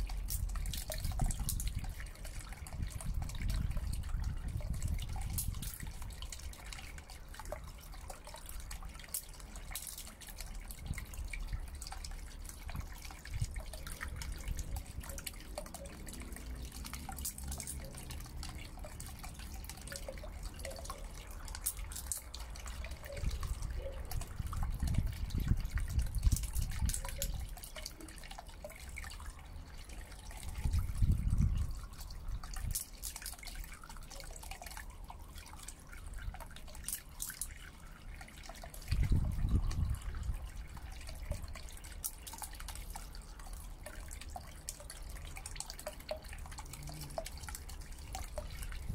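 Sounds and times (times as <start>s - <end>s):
fountain pump water splashing: 0.0s - 48.9s.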